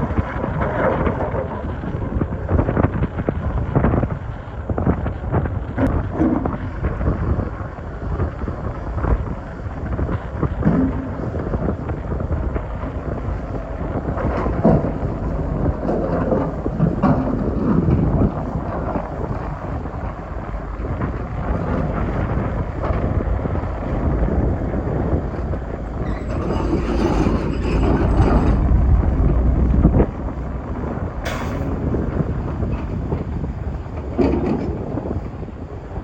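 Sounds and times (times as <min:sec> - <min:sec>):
excavator engine rumbling: 0:00.0 - 0:36.0.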